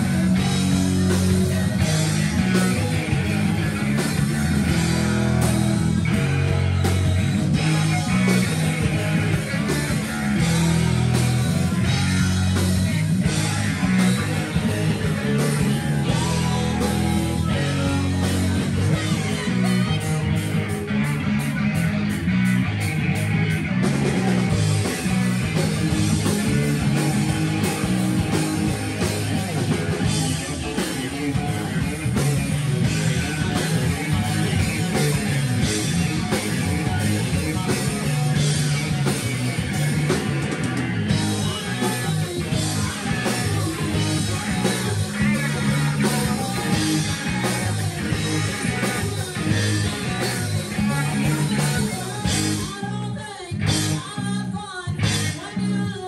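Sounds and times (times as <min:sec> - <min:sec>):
steady drum beat: 0:00.0 - 0:52.8
guitar: 0:00.0 - 0:56.0.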